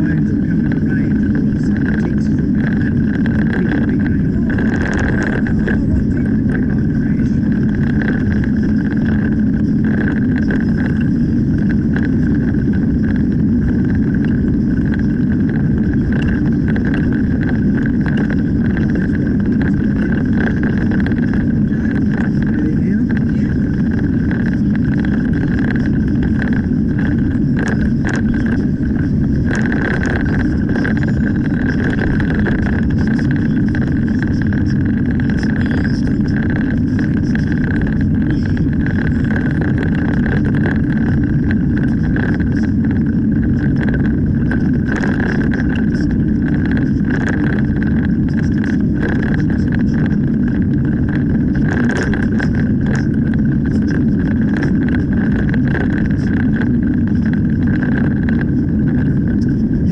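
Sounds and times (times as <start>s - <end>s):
high hum: 0.0s - 59.9s
tyre and engine rumble: 0.0s - 59.9s.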